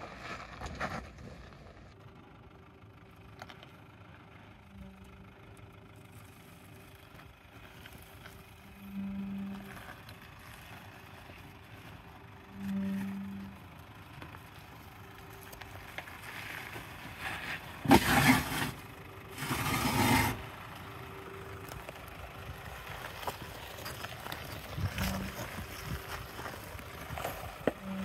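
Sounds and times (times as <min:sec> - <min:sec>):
off-road vehicle rumbling: 0:00.0 - 0:28.0.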